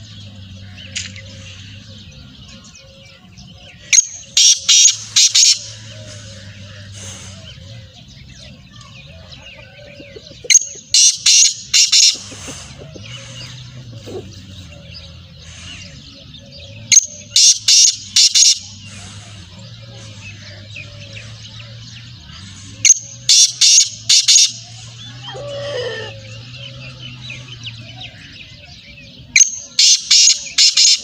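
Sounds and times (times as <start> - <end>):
francolin calling: 0.7 - 7.5, 9.3 - 31.0.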